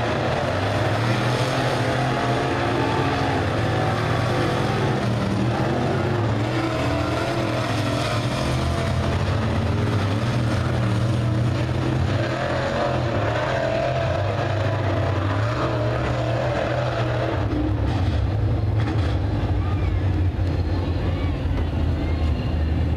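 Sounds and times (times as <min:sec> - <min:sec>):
race car engines: 0:00.0 - 0:22.9.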